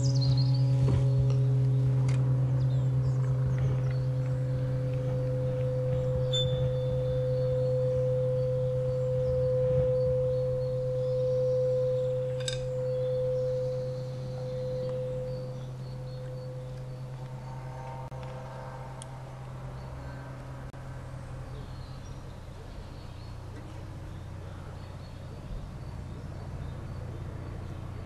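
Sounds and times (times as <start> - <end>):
low hum drone: 0.0 - 28.0
singing-bowl-like tone: 0.0 - 28.0.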